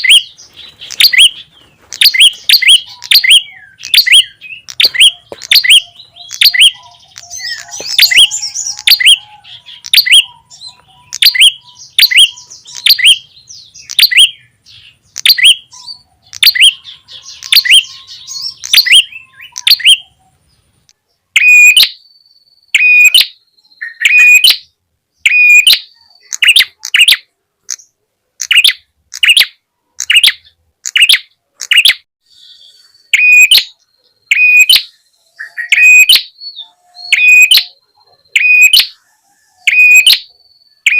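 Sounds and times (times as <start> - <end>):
bird sharp high chirps: 0.0 - 40.9.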